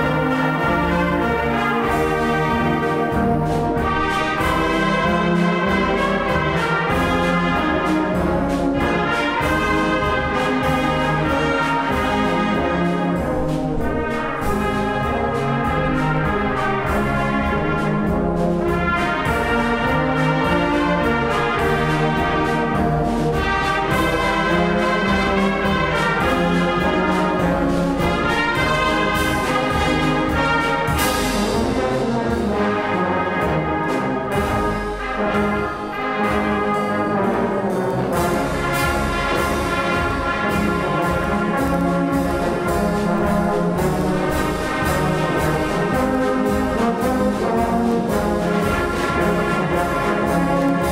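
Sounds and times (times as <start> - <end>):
brass band playing: 0.0 - 50.9.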